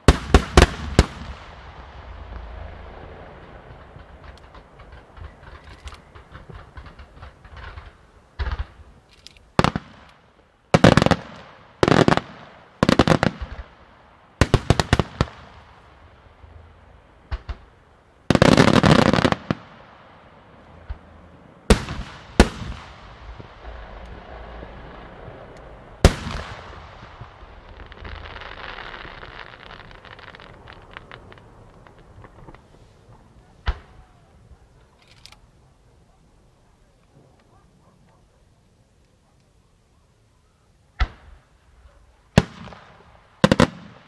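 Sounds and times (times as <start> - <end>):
fireworks bangs: 0.0 - 35.0, 40.9 - 44.0
fireworks crackling: 0.0 - 37.5, 40.9 - 44.0.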